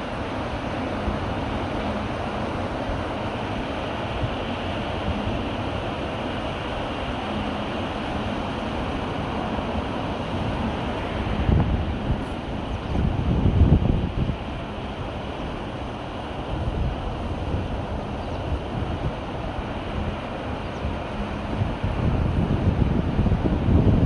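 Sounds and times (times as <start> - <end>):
sea surf washing onto beach: 0.0 - 24.0
wind buffeting microphone: 0.0 - 24.0.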